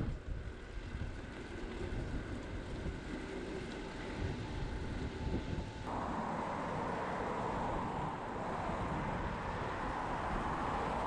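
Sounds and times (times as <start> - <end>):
tyre and road noise: 0.0 - 11.0
wind rushing over microphone: 0.0 - 11.0.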